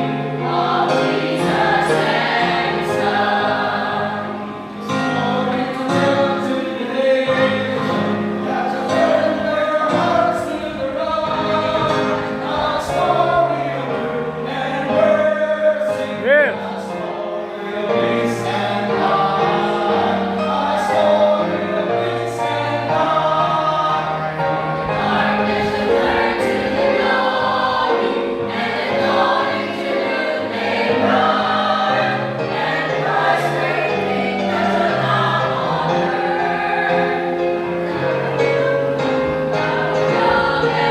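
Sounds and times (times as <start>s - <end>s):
gospel choral music: 0.0s - 40.9s.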